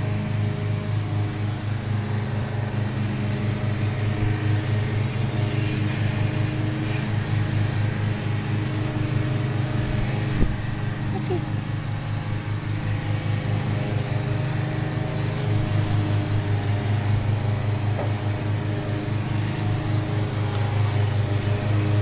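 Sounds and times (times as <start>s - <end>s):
low mechanical hum with throb: 0.0s - 22.0s.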